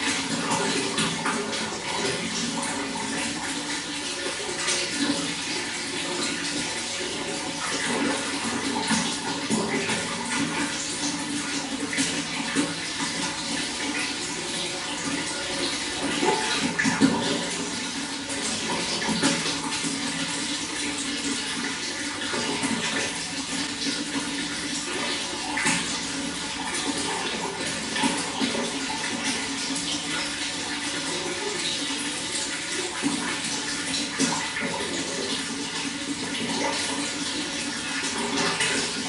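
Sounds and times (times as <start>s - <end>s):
running water flowing: 0.0s - 39.0s.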